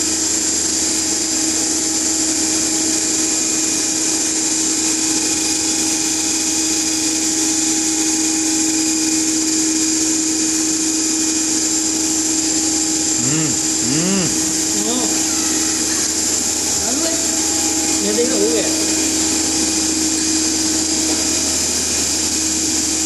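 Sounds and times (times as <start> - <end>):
motor machine whine: 0.0 - 23.0.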